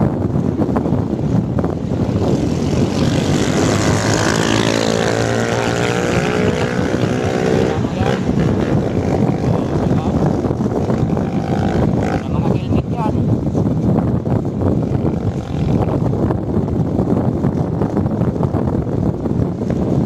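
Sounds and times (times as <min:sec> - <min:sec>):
motorcycle road and wind rumble: 0:00.0 - 0:20.0
pitched engine hum: 0:00.0 - 0:20.0.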